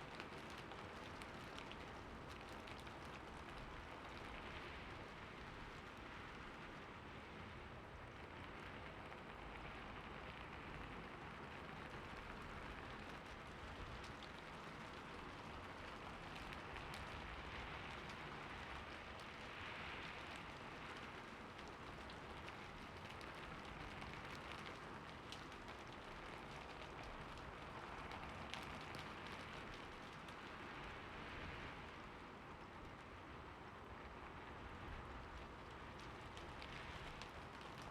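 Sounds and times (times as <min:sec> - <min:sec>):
rain falling on a roof: 0:00.0 - 0:37.9.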